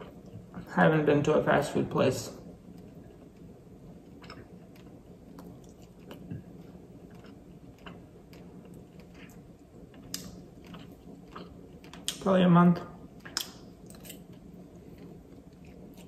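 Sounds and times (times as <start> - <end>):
person chewing pasta: 0.0 - 0.7, 2.6 - 12.2, 13.0 - 16.0.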